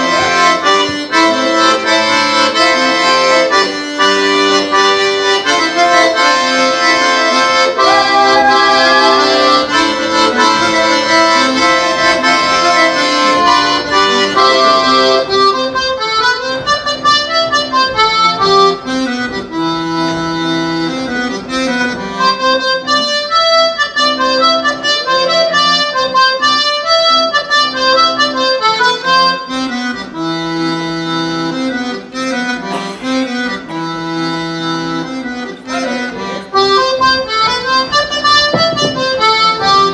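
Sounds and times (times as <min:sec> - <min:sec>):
accordion dance tune: 0:00.0 - 0:39.9.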